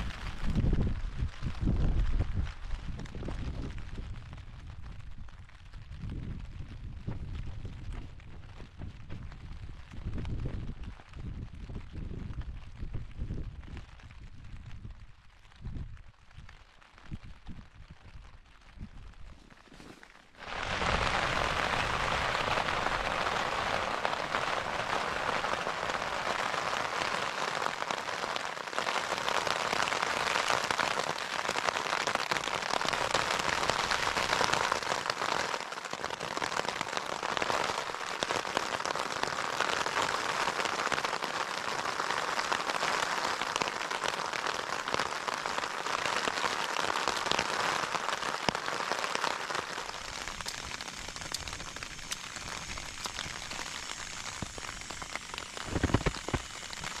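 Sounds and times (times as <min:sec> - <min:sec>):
heavy rain on a tent: 0:00.0 - 0:57.0.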